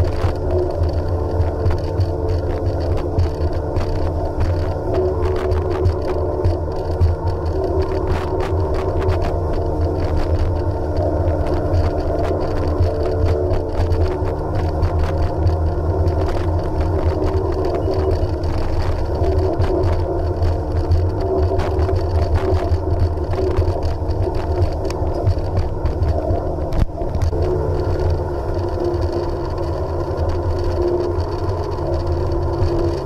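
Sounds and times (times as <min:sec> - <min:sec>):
jet ski engine running: 0:00.0 - 0:33.0
water crackle and wind noise: 0:00.0 - 0:33.0.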